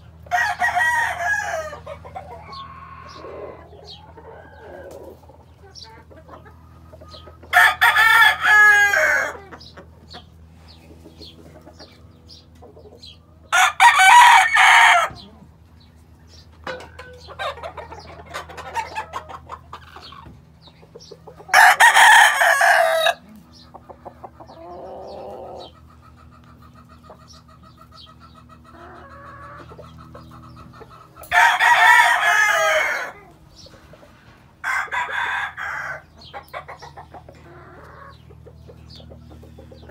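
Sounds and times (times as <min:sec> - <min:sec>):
chicken clucks and calls: 0:00.0 - 0:39.9
roosters crowing: 0:00.0 - 0:39.9
steady low hum: 0:00.0 - 0:39.9.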